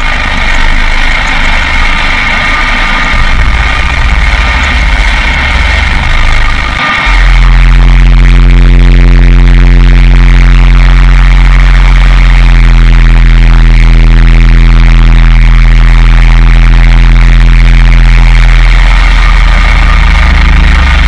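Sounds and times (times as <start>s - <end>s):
grainy noise wash: 0.0s - 21.0s
low electronic drone: 0.0s - 21.0s.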